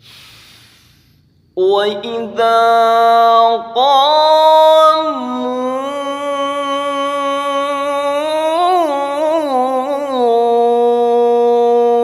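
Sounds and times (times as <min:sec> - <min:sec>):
person reciting melodically: 0:01.6 - 0:12.0.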